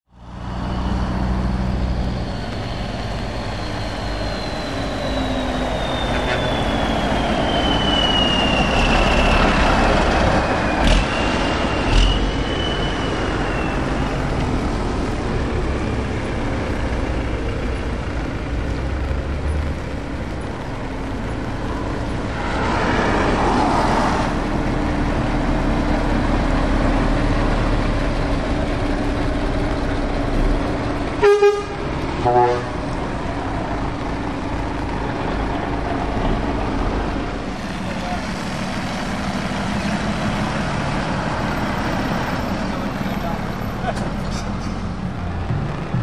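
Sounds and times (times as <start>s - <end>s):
diesel engines driving past: 0.1s - 46.0s
tyres hissing on wet road: 0.2s - 46.0s.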